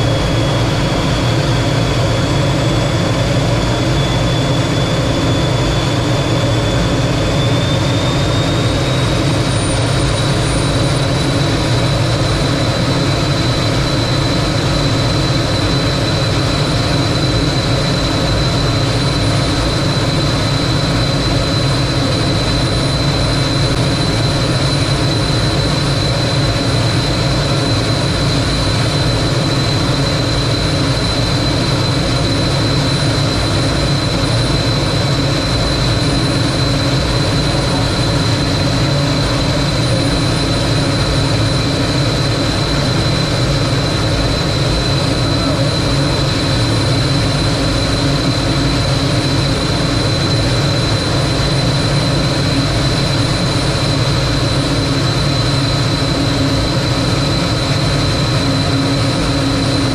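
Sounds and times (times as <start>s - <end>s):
jet engine rush with whine: 0.0s - 59.9s.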